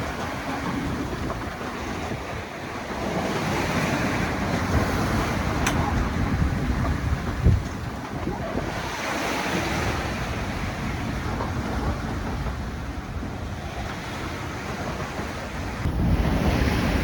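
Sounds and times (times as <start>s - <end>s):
rough sea rushing: 0.0s - 17.0s
wind: 0.0s - 17.0s.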